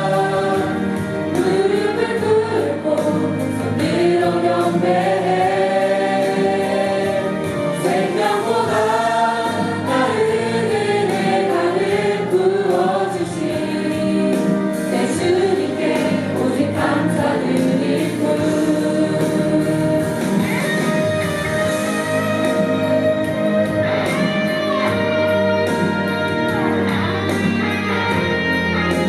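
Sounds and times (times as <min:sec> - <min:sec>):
choir singing gospel song: 0:00.0 - 0:24.4
instrumental accompaniment: 0:00.0 - 0:29.0.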